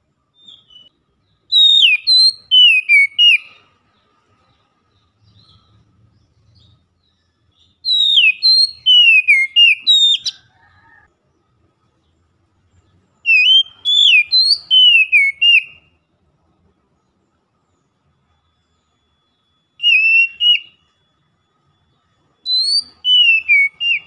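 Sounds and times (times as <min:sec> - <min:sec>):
bird whistled song: 0:00.3 - 0:04.0, 0:04.6 - 0:11.1, 0:13.1 - 0:16.1, 0:16.8 - 0:24.0.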